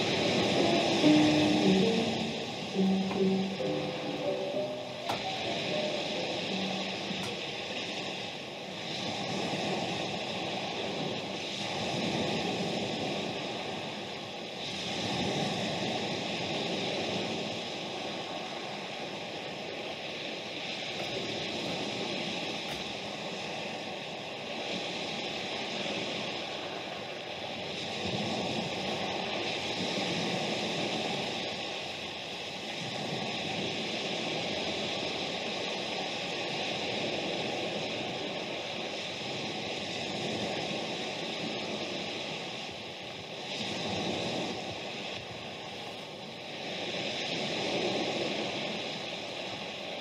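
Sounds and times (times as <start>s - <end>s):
waves rushing: 0.0s - 50.0s.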